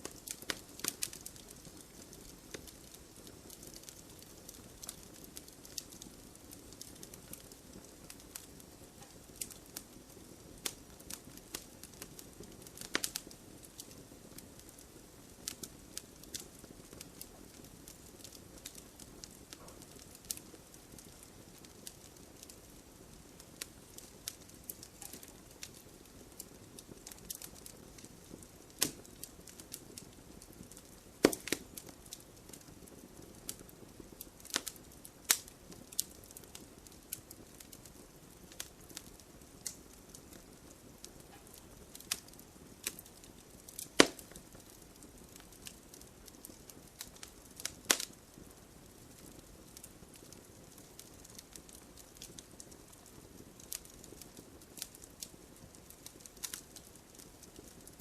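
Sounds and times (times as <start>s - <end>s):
low hiss of fire: 0.0s - 58.0s
wood fire crackling: 0.0s - 58.0s.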